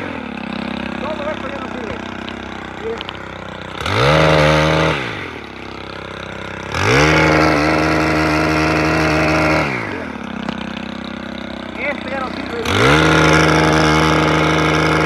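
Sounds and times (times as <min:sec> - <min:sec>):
chainsaw cutting branches: 0:00.0 - 0:15.0
pole saw engine revving: 0:00.0 - 0:15.0.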